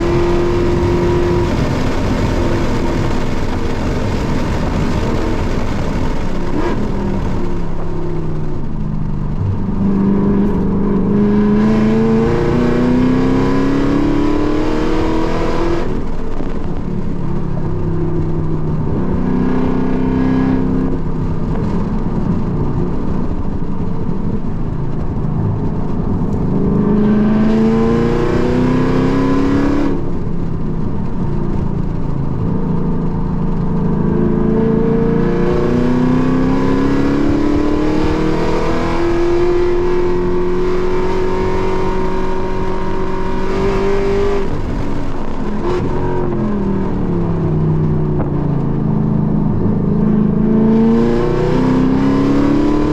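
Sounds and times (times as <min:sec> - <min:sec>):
car engine revving in cabin: 0:00.0 - 0:17.1, 0:18.5 - 0:30.2, 0:33.0 - 0:52.9.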